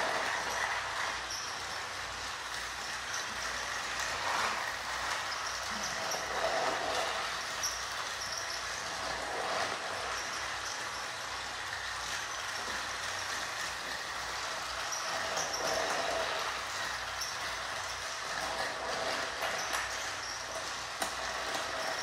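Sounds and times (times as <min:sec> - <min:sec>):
small toy train motors whirring: 0:00.0 - 0:22.0
wheels rattling on plastic track: 0:00.0 - 0:22.0.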